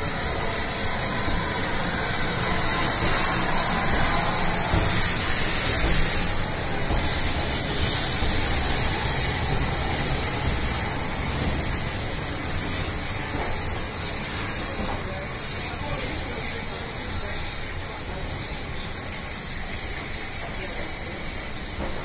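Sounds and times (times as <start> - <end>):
low rumble of train: 0.0 - 22.0
steam locomotive hissing: 0.0 - 22.0.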